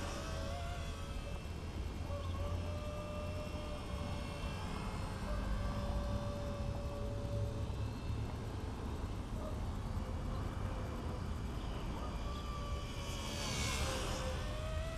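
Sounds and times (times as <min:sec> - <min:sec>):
electric motor whine: 0:00.0 - 0:09.0, 0:11.6 - 0:14.9
model helicopter rotor hum: 0:00.0 - 0:14.9.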